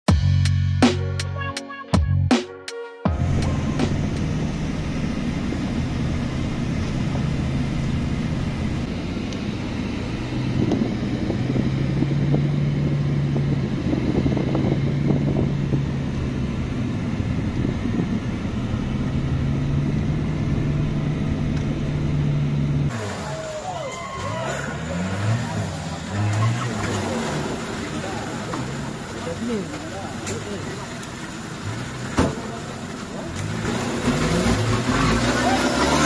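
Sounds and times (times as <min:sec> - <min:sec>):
car engine hum: 0:03.1 - 0:36.0
road and tyre rumble: 0:03.1 - 0:36.0.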